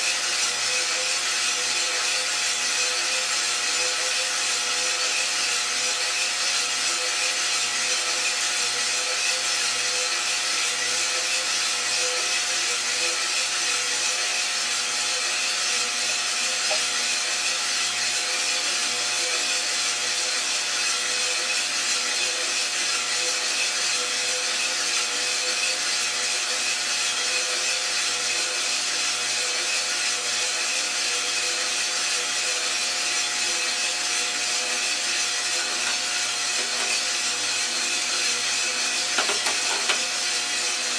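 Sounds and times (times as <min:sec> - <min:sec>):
coffee roaster motor and fan humming: 0:00.0 - 0:40.9.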